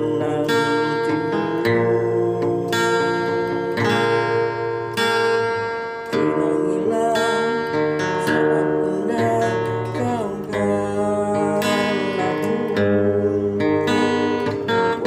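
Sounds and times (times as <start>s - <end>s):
out of tune acoustic guitar: 0.0s - 15.0s.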